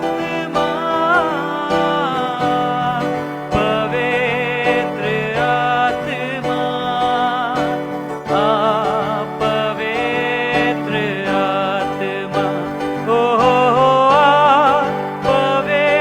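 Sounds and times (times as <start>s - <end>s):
held chords: 0.0s - 16.0s
lead melody with vibrato: 0.0s - 16.0s.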